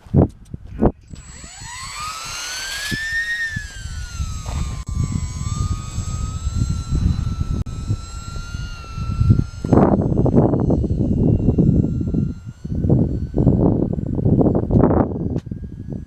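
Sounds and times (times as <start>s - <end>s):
wind rumbling on microphone: 0.0s - 16.0s
electric motor whine: 1.0s - 16.0s.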